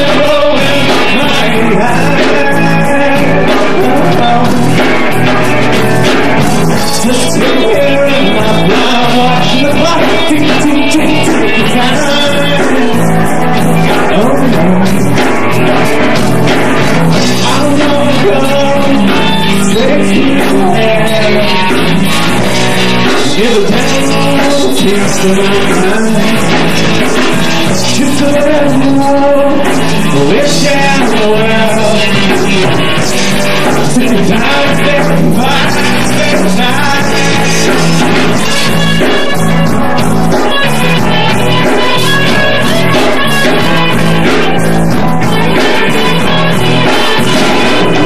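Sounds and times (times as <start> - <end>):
man singing: 0.0 - 48.0
rock band playing live: 0.0 - 48.0.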